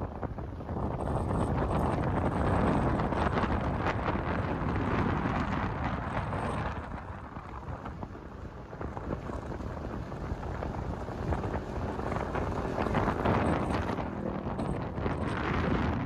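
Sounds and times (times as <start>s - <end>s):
wind buffeting microphone: 0.0s - 16.0s
vehicle engine running: 0.8s - 16.0s.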